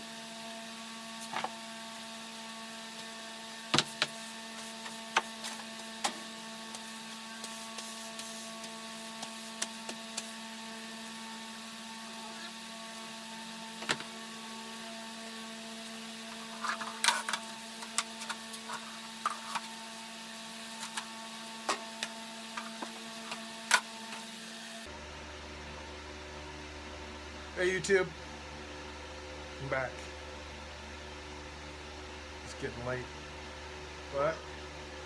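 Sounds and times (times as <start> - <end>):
electrical hum with tones: 0.0 - 35.0.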